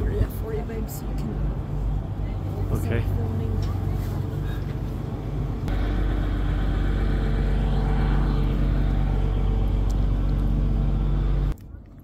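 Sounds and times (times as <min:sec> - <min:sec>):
train diesel engine hum: 0:00.0 - 0:11.6.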